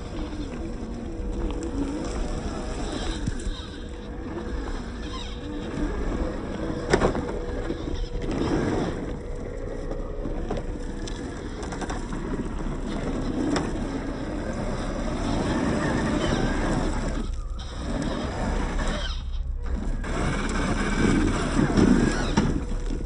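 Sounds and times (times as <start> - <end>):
electric motor whining: 0.0 - 23.0
tyres grinding on stone: 0.0 - 23.0.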